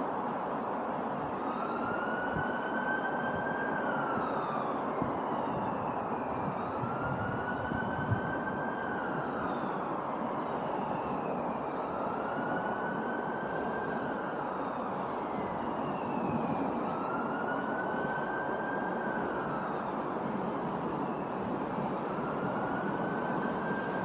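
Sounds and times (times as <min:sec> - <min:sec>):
emergency siren wailing: 0:01.1 - 0:24.0.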